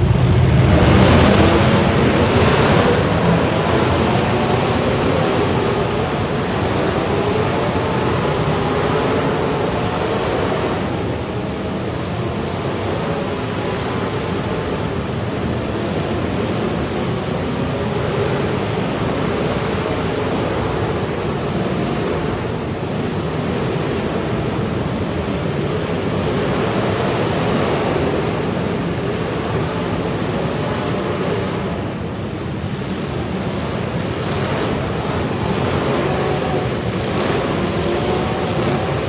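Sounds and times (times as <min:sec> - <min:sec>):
unmuffled car engines revving: 0:00.0 - 0:39.0.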